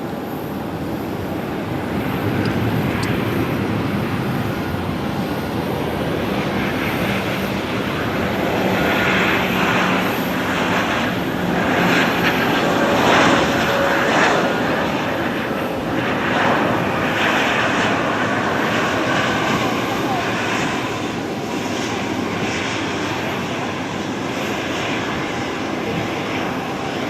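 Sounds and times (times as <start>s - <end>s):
faint jet engine whine: 0.0s - 27.0s
jet engine roar: 0.0s - 27.0s.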